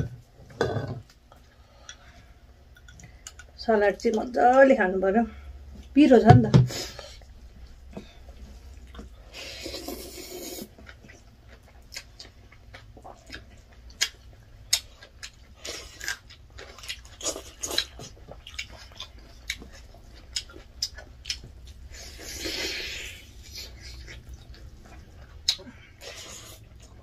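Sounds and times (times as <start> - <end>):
people chewing with mouth clicks: 0.9 - 4.2, 7.2 - 27.0.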